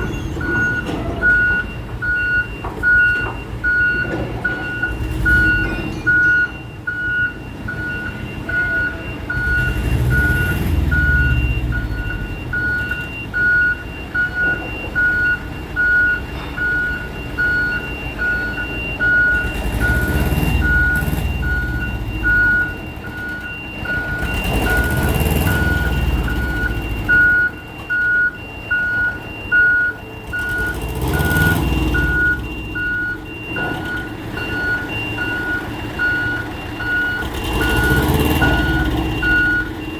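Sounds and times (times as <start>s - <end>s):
diesel engine rumbling: 0.0s - 39.9s
truck reversing alarm beeps: 0.0s - 39.9s.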